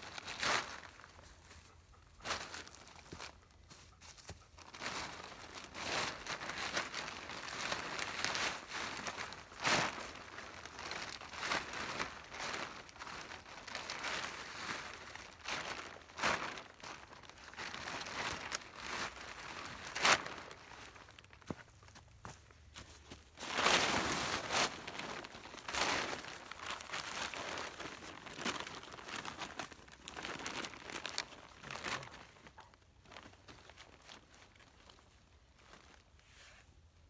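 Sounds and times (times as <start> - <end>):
plastic tarp crinkling: 0.0 - 1.2, 4.6 - 21.5, 23.1 - 36.0.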